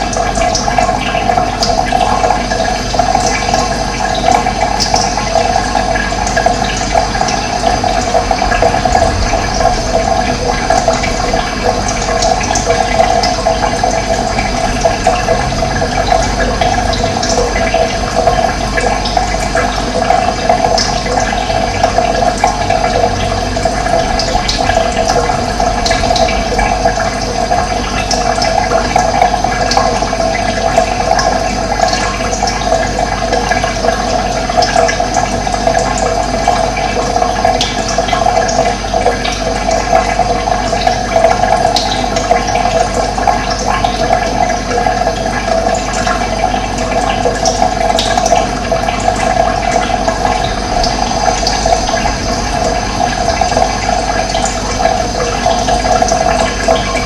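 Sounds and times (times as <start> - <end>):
water rushing and gurgling: 0.0 - 57.0.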